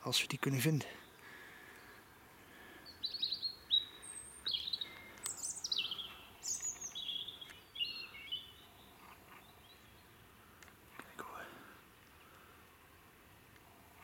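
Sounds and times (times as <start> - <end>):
songbird singing: 0.0 - 12.6.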